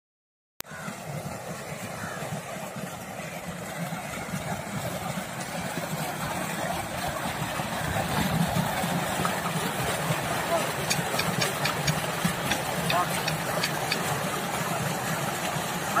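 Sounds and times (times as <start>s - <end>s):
water gushing into a tank: 0.6s - 16.0s.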